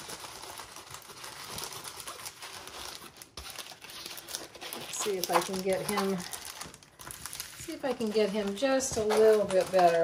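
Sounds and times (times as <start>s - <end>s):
plastic sheet crinkling: 0.0s - 10.0s.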